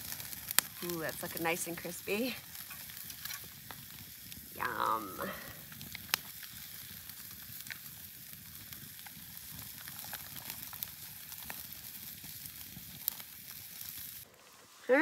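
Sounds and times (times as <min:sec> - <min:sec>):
fire pops and crackles: 0:00.0 - 0:15.0
meat sizzling on a grill: 0:00.0 - 0:15.0.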